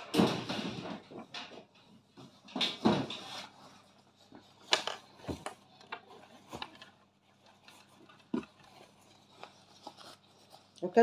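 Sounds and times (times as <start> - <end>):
objects being handled: 0.0 - 11.0.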